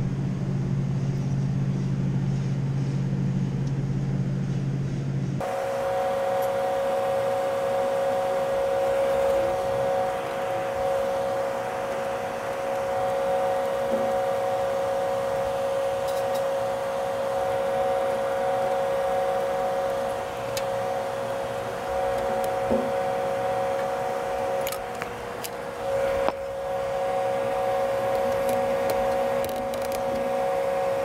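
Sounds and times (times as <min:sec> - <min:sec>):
machine hum with two tones: 0:00.0 - 0:31.0.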